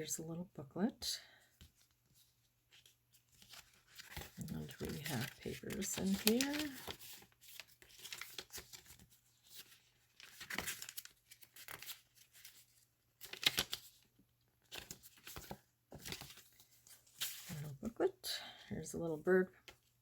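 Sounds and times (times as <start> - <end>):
paper rustling and crinkling: 1.6 - 17.8.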